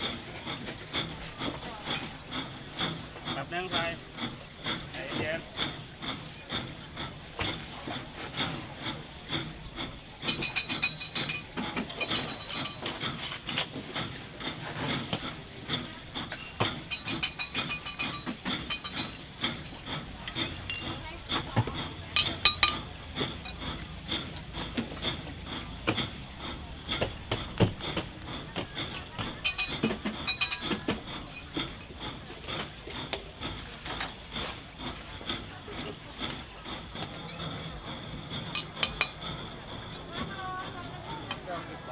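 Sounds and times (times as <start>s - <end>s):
ice being scraped and stirred: 0.0s - 41.9s.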